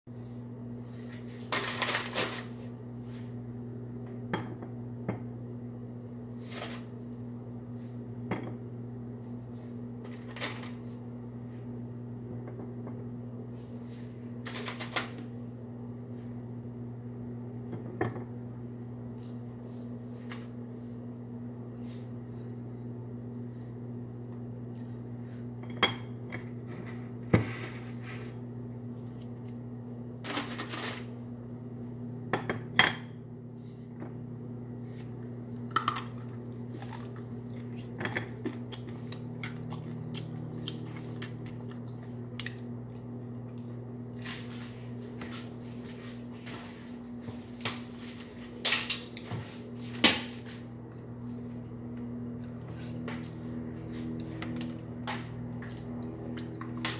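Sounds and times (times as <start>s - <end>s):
steady low hum: 0.1s - 56.9s.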